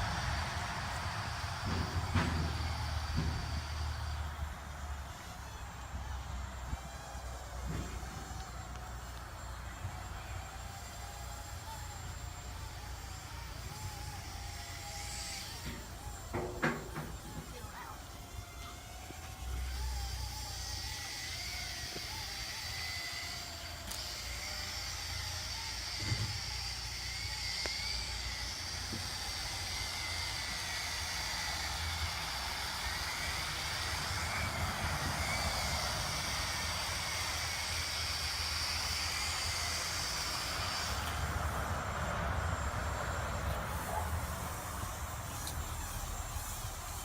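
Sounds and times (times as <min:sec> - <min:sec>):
drone propellers whining: 0:00.0 - 0:47.0.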